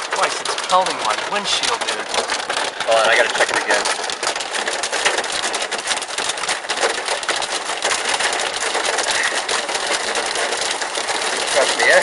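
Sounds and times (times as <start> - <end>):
hail rattling: 0.0 - 12.0.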